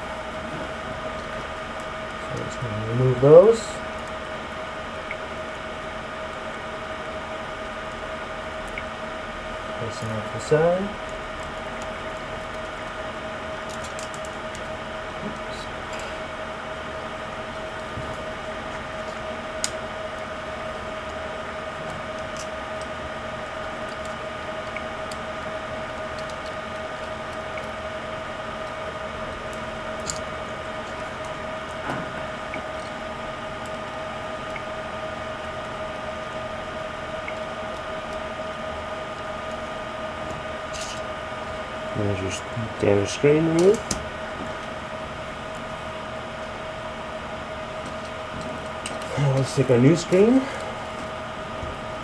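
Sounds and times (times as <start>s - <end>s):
high-pitched hum: 0.0s - 52.0s.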